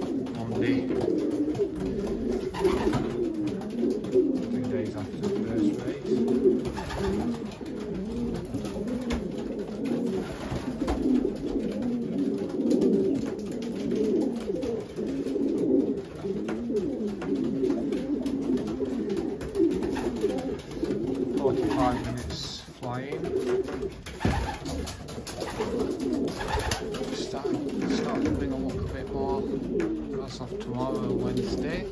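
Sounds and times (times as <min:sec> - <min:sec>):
pigeons cooing: 0:00.0 - 0:31.9.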